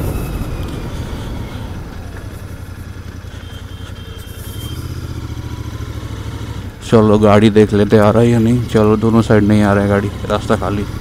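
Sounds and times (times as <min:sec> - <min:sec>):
motorcycle engine idling low: 0:00.0 - 0:11.0.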